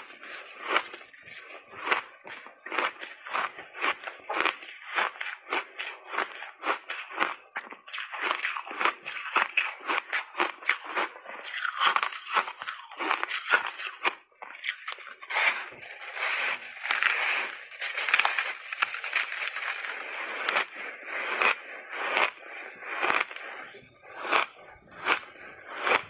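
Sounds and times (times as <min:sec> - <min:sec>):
ice being crunched: 0:00.0 - 0:26.0.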